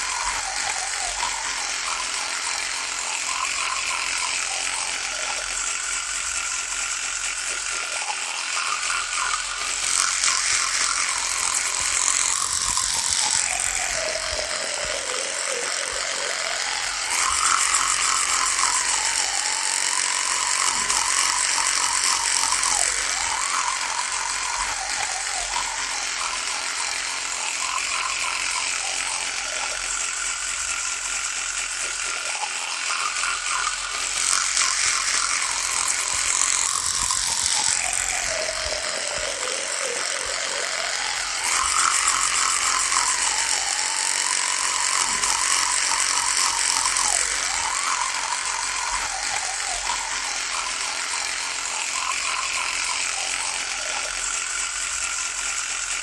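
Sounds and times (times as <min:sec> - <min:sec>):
electric toothbrush buzzing: 0:00.0 - 0:56.0.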